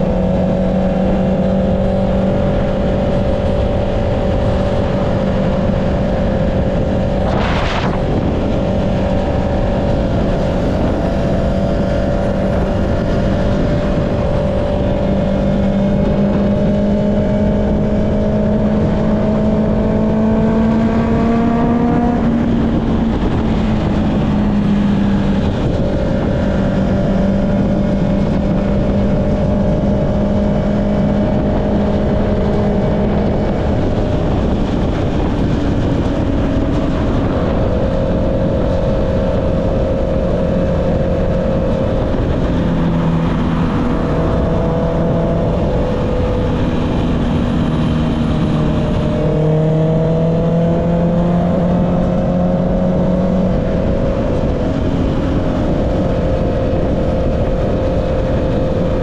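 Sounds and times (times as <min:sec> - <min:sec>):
motorcycle engine cruising: 0:00.0 - 0:59.0
wind noise: 0:00.0 - 0:59.0.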